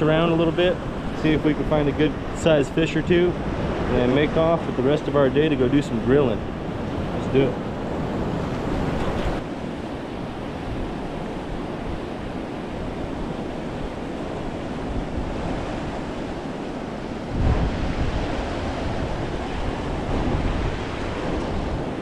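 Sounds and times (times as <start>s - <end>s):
river rushing: 0.0s - 22.0s
wind buffeting microphone: 0.0s - 22.0s.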